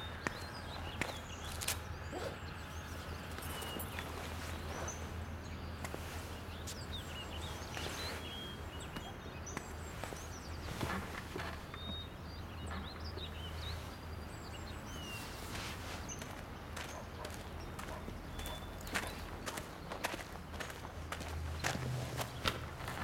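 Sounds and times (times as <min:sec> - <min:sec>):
distant city traffic hum: 0:00.0 - 0:23.0
small birds chirping: 0:00.0 - 0:23.0.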